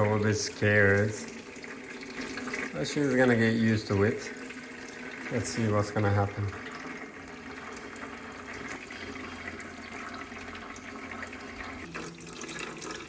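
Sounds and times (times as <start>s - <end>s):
small water pump: 0.0s - 13.0s
water trickling into plastic tub: 0.0s - 13.0s.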